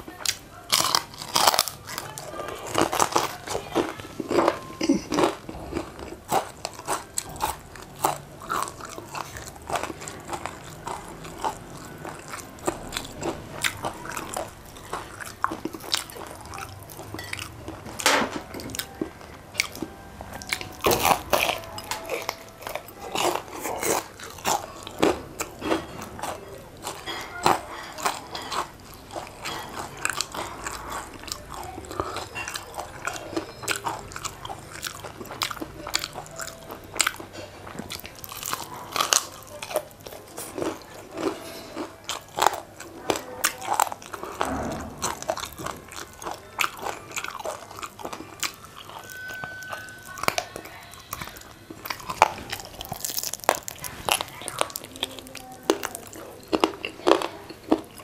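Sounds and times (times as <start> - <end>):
crunching and chewing: 0.0 - 58.0.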